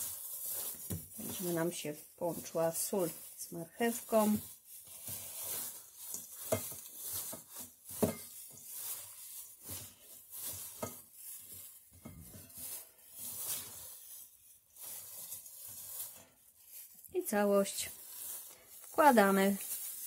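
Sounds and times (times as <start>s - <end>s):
cabbage rustling and crunching: 0.0s - 20.0s.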